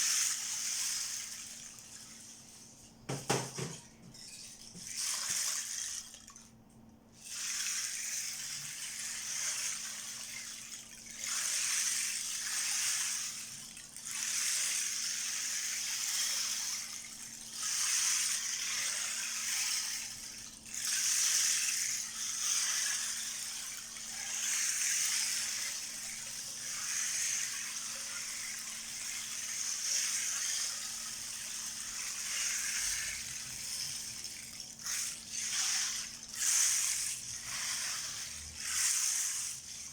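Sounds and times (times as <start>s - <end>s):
rain disk beads rolling hiss: 0.0s - 2.9s, 7.2s - 39.9s.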